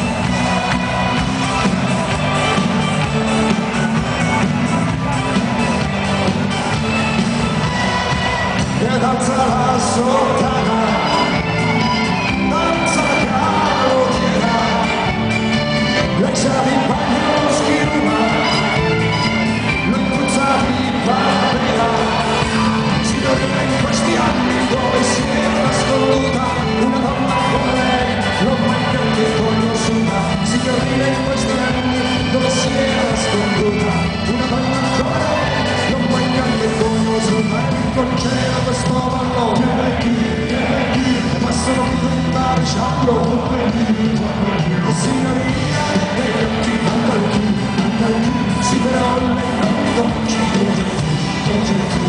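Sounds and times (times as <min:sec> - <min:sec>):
live band music: 0:00.0 - 0:52.0
person singing: 0:07.9 - 0:52.0.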